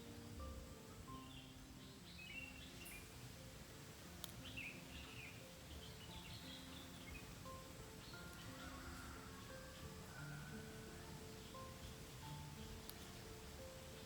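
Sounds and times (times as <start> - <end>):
quiet background music: 0.0 - 14.0
birds chirping and whistling: 1.1 - 3.1, 4.4 - 14.0.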